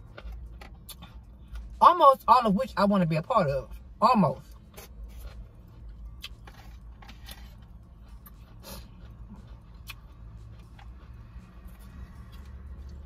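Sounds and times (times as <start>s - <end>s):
person chewing food: 0.0s - 1.8s, 3.7s - 13.0s.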